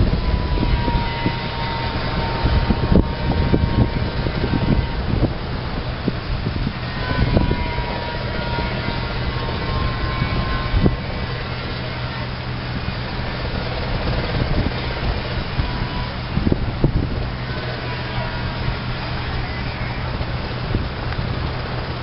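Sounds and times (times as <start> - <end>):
low engine drone: 0.0 - 22.0
wind buffeting microphone: 0.0 - 22.0.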